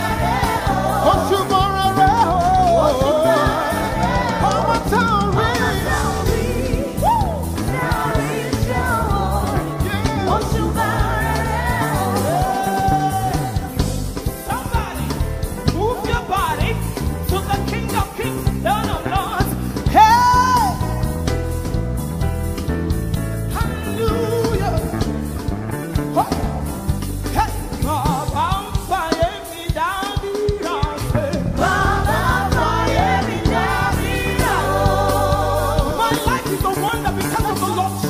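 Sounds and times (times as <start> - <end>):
person singing gospel: 0.0 - 21.0, 27.4 - 38.0
band with pulsing bass beat: 0.0 - 38.0.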